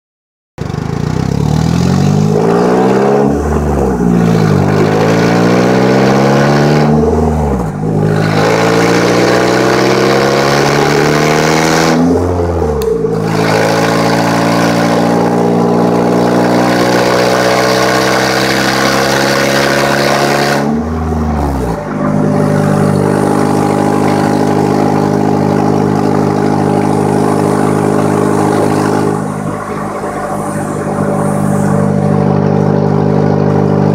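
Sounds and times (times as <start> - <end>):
car engine accelerating through gears: 0.6 - 33.9.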